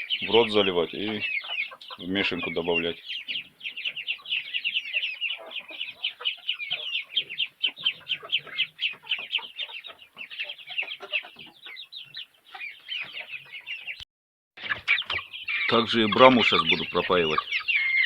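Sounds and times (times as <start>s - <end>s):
young chickens cheeping: 0.0s - 14.0s, 14.6s - 18.0s.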